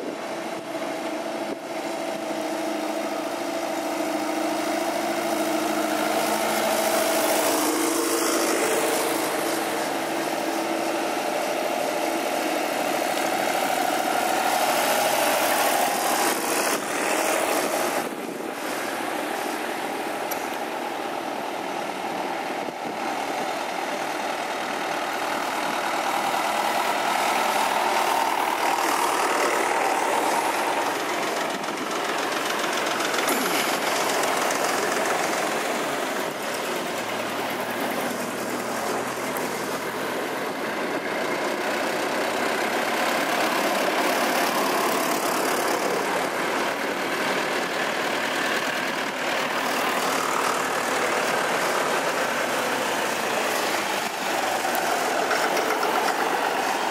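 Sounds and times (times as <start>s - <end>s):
tractor engines driving past: 0.0s - 56.9s.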